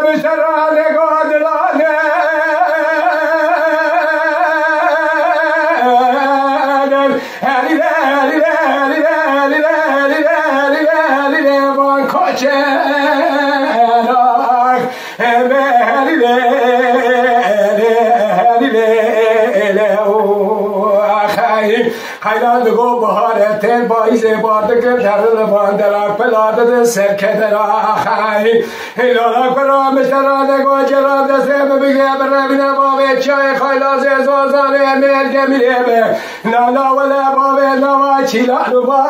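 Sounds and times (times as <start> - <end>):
man singing unaccompanied: 0.0 - 39.0.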